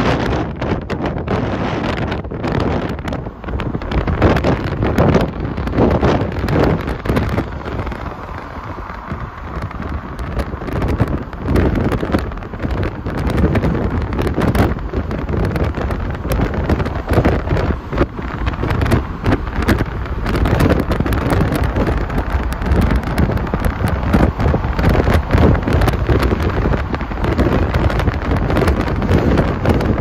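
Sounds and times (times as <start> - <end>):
road and engine noise: 0.0 - 30.0
wind buffeting microphone: 0.0 - 30.0.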